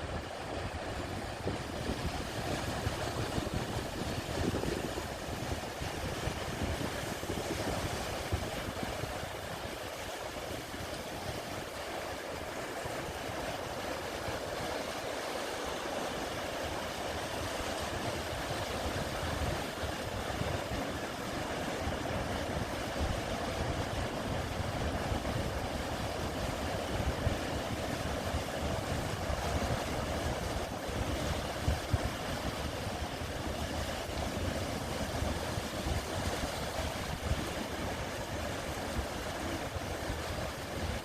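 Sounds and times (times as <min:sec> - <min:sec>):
sea waves washing onto beach: 0:00.0 - 0:41.0.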